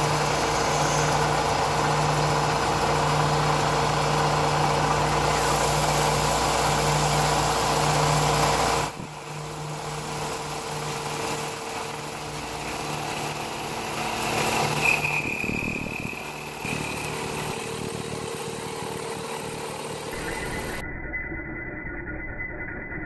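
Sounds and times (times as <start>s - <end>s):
high squeal: 0.0s - 3.4s, 5.2s - 23.0s
milling machine cutting metal: 0.0s - 20.8s.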